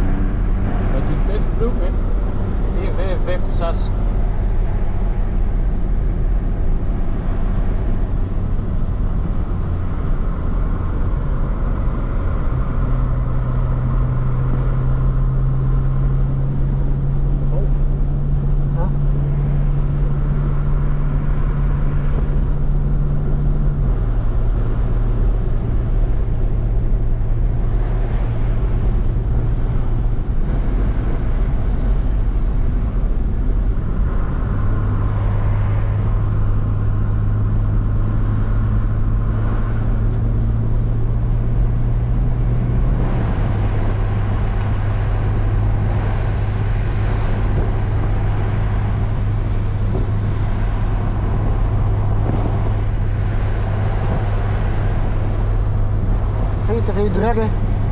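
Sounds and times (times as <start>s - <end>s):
car engine droning: 0.0s - 57.9s
tyre and wind noise: 4.0s - 56.8s.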